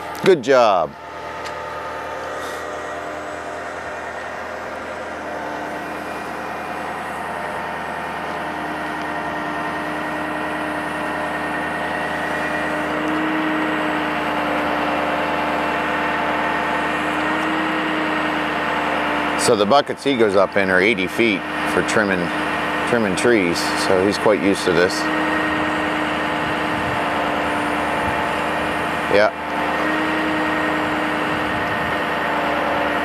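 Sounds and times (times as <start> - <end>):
diesel truck engine running: 0.0 - 33.0
hydraulic whine: 0.0 - 33.0.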